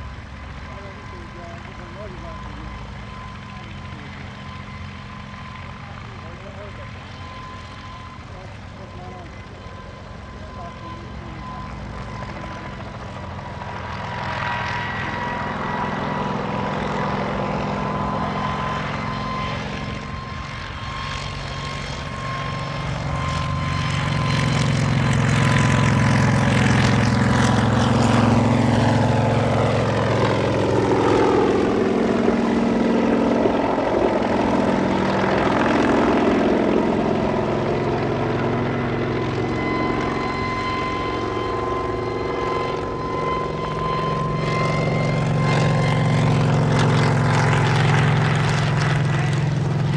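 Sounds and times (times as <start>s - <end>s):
helicopter engines and rotors: 0.0s - 49.9s.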